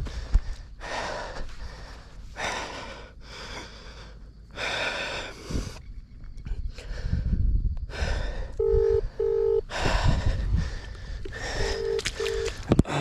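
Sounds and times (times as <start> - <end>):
man breathing heavily and gasping: 0.0 - 5.8, 6.6 - 13.0.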